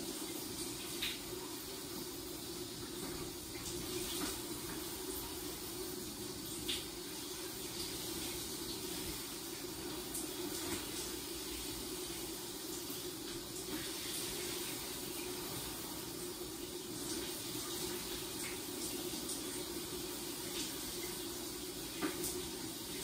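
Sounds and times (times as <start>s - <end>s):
shower running: 0.0s - 23.0s.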